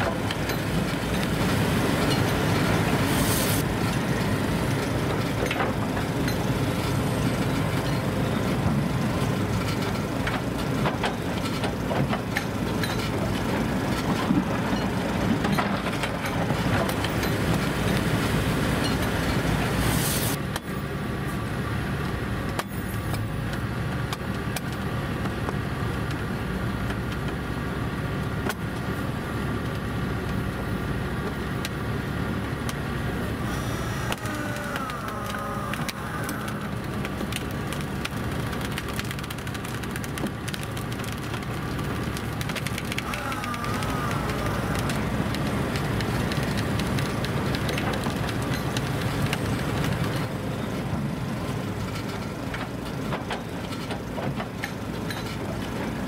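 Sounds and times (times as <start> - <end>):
diesel engines rumbling: 0.0 - 56.0.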